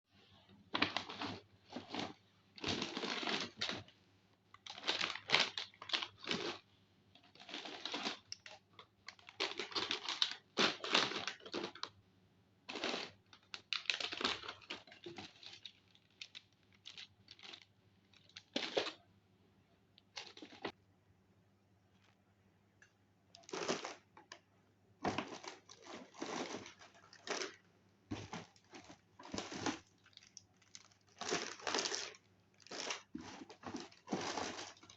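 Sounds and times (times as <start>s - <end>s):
crinkling rustling noise: 0.1s - 12.0s, 12.7s - 19.0s, 20.0s - 20.8s, 23.4s - 34.9s.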